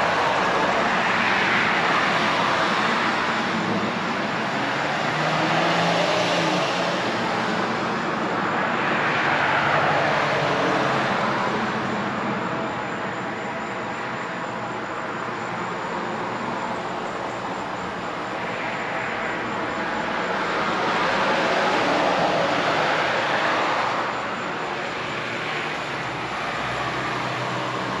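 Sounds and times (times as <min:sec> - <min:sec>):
cars passing: 0:00.0 - 0:28.0.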